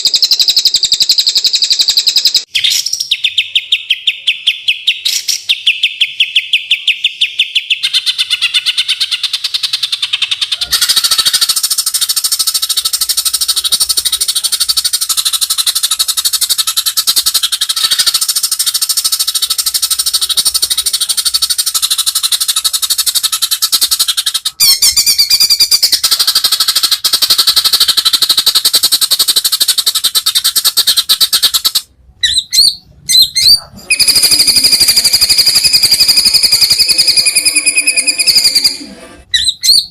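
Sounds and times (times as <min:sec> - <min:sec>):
bird singing rattling song: 0:00.0 - 0:39.9.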